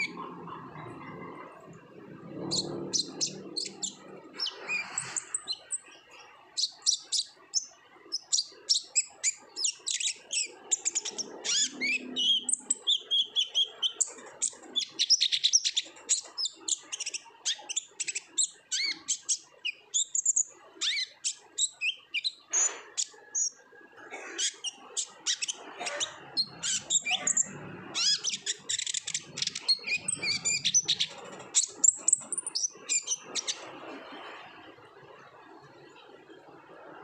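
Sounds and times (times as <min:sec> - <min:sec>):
bird singing high chirps and trills: 0:00.0 - 0:36.4.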